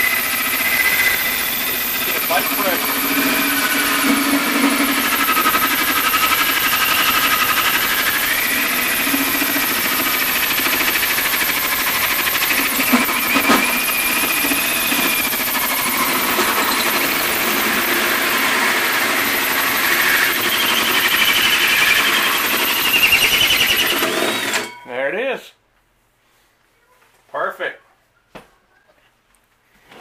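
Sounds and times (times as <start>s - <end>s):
drill motor whine: 0.0s - 24.7s
hole saw squealing on metal: 0.0s - 24.8s.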